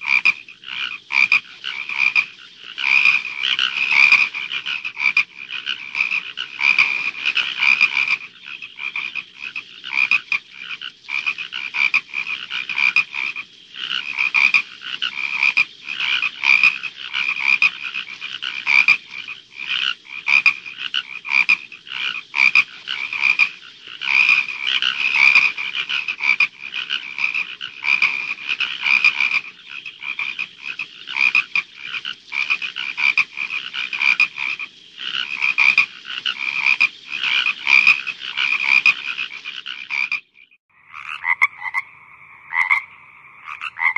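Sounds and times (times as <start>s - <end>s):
frogs croaking chorus: 0.0s - 43.9s.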